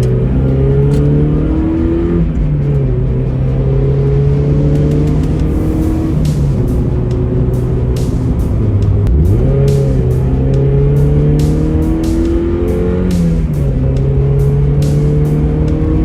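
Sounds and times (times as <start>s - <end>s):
car engine revving while driving: 0.0s - 16.0s.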